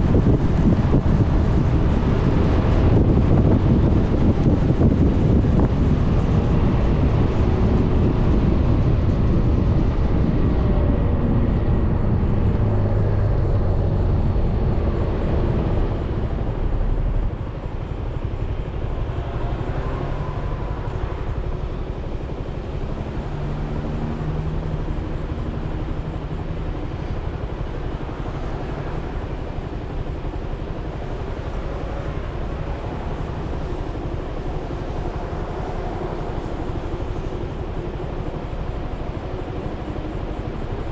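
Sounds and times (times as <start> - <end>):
scooter road noise: 0.0 - 40.9
wind rushing over microphone: 0.0 - 40.9.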